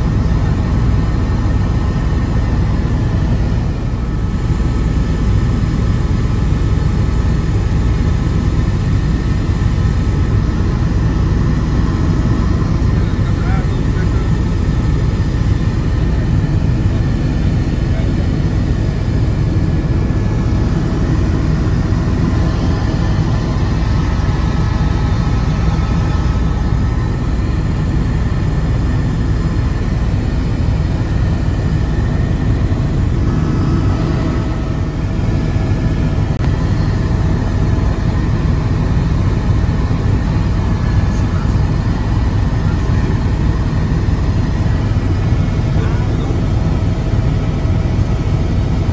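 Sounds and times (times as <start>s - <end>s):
helicopter engine and rotor rumble: 0.0s - 48.9s.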